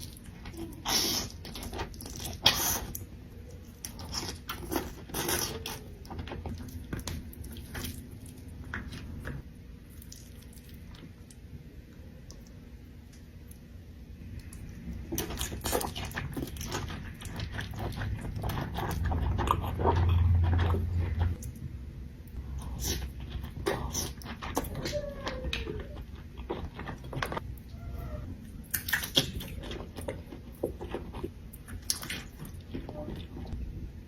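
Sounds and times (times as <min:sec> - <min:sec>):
crunching and chewing food: 0:00.0 - 0:33.7.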